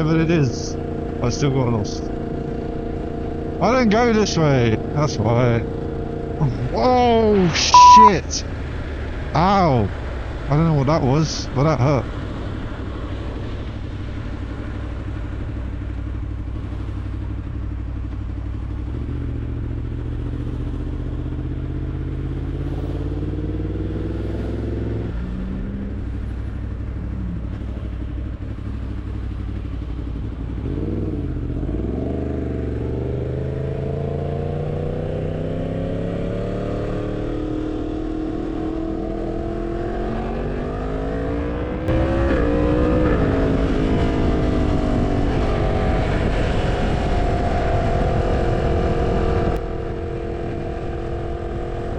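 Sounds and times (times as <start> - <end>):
motorcycle engine revving: 0.0 - 7.9, 11.6 - 51.9.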